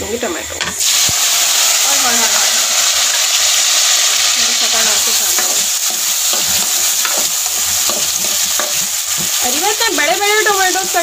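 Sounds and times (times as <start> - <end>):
tomatoes sizzling in hot oil: 0.6 - 11.0.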